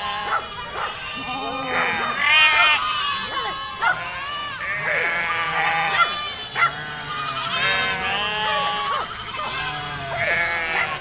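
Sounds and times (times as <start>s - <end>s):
goats bleating: 0.0s - 11.0s.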